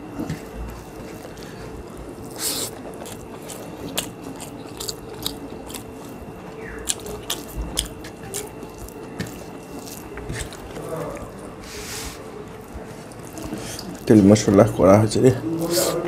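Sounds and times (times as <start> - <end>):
faint steady hum: 0.0 - 16.0
chewing with mouth clicks: 0.1 - 11.6, 12.2 - 14.8
fingers squishing rice on plates: 0.2 - 14.8.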